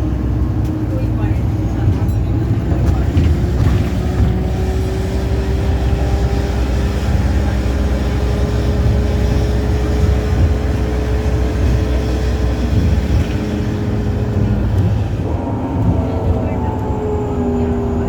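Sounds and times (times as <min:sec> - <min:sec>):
bus engine rumble: 0:00.0 - 0:18.0
drivetrain whine: 0:00.0 - 0:18.0.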